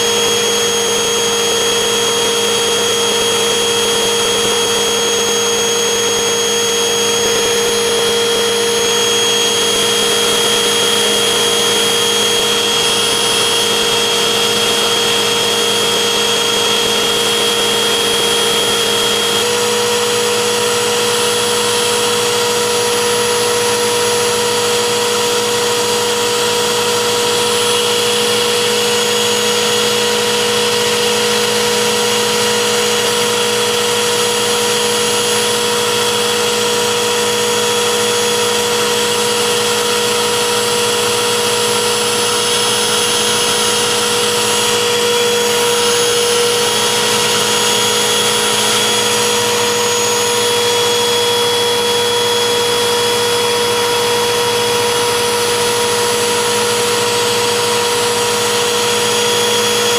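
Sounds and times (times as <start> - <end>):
vacuum cleaner motor whining: 0.0 - 59.9.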